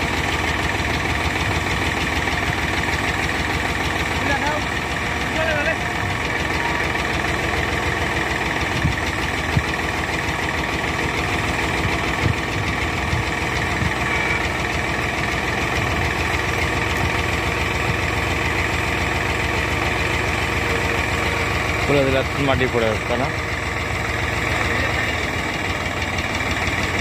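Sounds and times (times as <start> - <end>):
heavy vehicle engine idling: 0.0 - 27.0.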